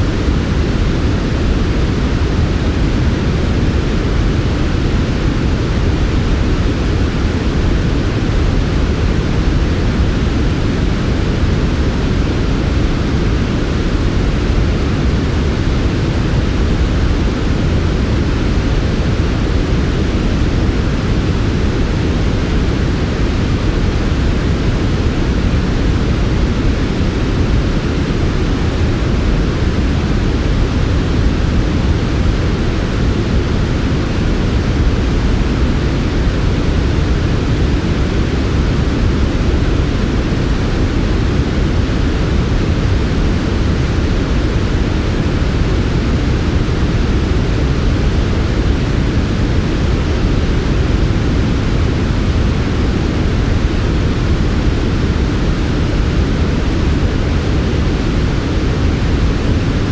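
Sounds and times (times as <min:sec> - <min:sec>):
white noise rumble and hiss: 0:00.0 - 0:59.9.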